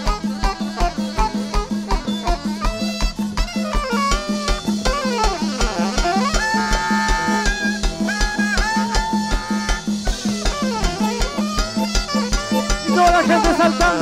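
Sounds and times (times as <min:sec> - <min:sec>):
bass drum beat: 0:00.0 - 0:14.0
long held melody notes: 0:00.0 - 0:14.0
shakers and percussion: 0:00.0 - 0:14.0.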